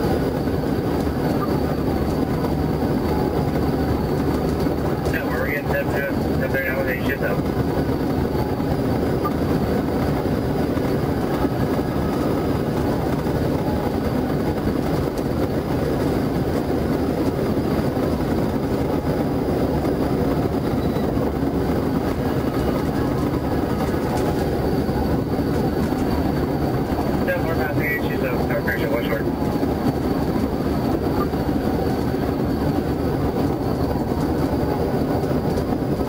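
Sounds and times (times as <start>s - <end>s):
car road and wind noise: 0.0s - 36.0s.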